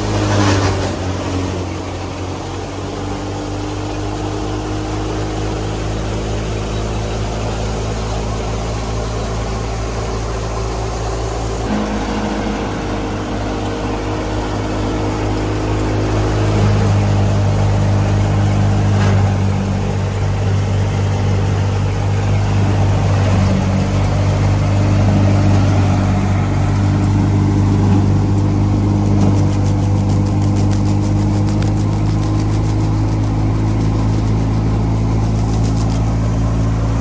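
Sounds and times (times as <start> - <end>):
combine harvester diesel engine humming: 0.0 - 37.0.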